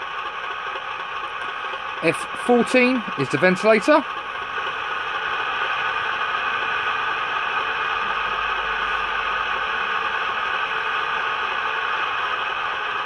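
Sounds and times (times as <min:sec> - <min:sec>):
cooling fan sound from small speaker: 0:00.0 - 0:13.0.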